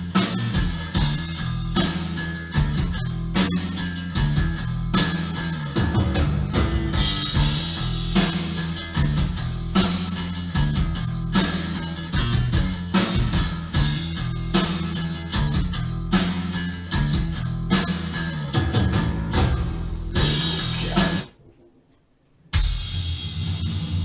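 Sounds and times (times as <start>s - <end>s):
rock music over loudspeakers: 0.0s - 21.3s.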